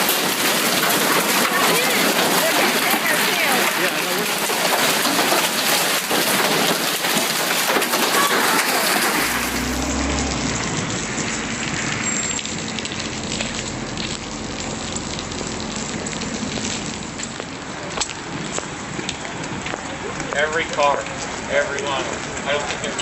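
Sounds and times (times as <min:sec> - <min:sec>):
heavy rain pouring: 0:00.0 - 0:23.0
raindrops ticking on surfaces: 0:00.0 - 0:23.0.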